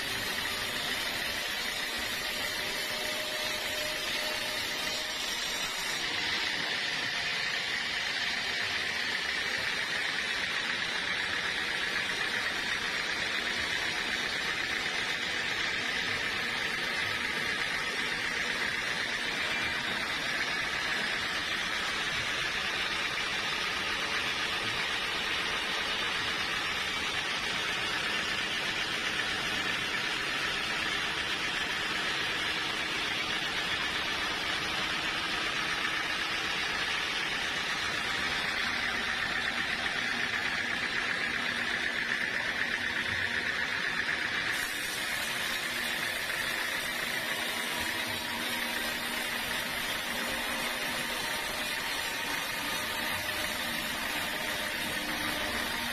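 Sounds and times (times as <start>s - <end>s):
saw cutting wood: 0.0s - 55.9s.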